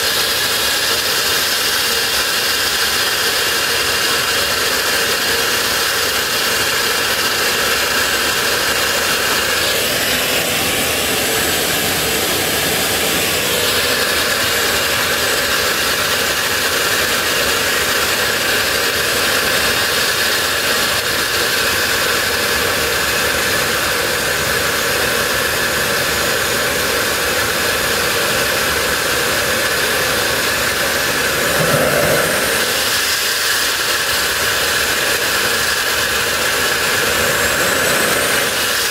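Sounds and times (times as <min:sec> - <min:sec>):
turbojet rushing and whining: 0:00.0 - 0:38.9.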